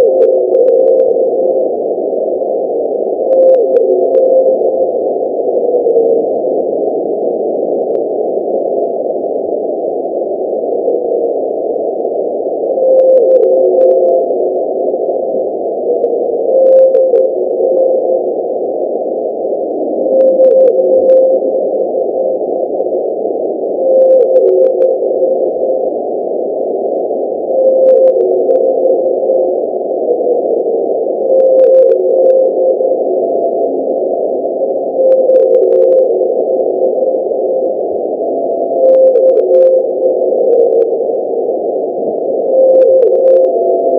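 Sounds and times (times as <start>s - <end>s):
whale call moaning drone: 0.0s - 43.9s.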